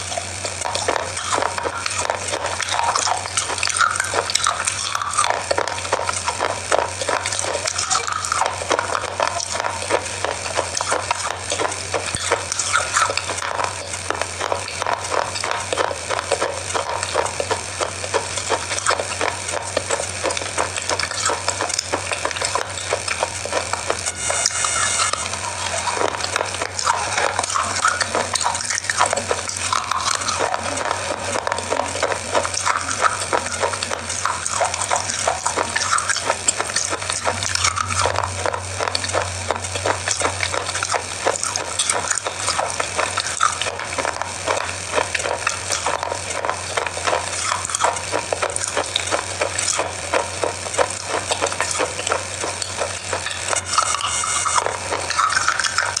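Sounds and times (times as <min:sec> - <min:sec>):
chocolate bar crunching: 0:00.0 - 0:56.0.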